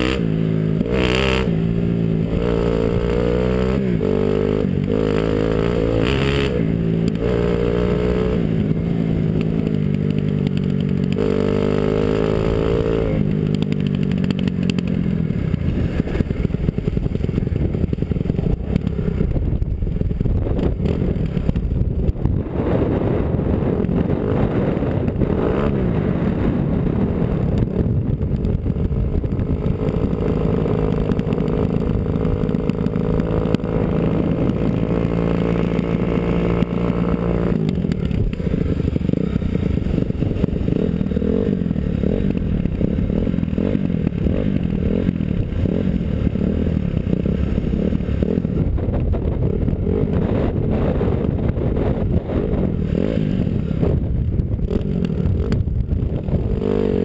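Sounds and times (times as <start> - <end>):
dirt bike engine revving: 0.0 - 19.4, 29.3 - 57.0.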